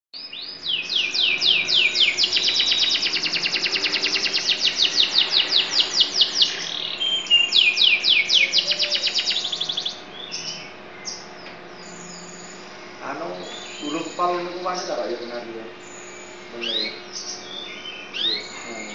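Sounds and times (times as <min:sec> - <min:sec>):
canary singing trills: 0:00.2 - 0:18.9.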